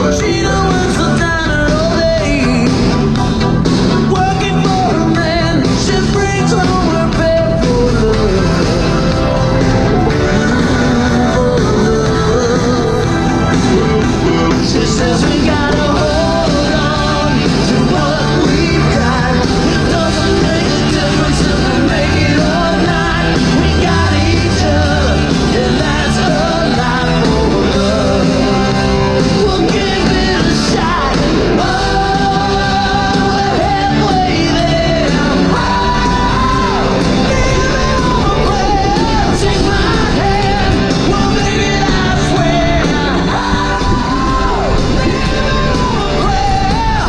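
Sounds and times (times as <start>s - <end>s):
rock song with singer: 0.0s - 47.0s.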